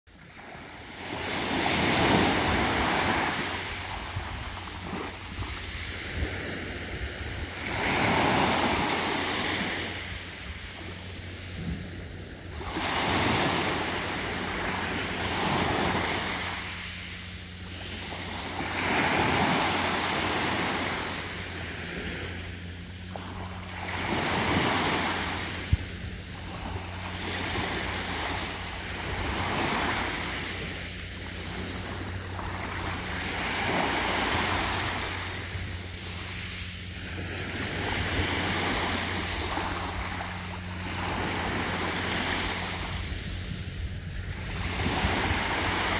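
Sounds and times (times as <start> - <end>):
waves washing up a sandy beach: 0.1 - 45.9.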